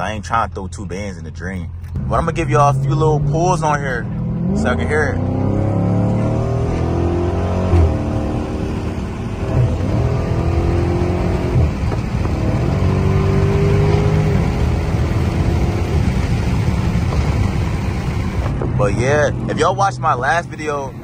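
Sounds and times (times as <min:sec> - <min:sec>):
car engine accelerating hard: 0:01.8 - 0:21.0.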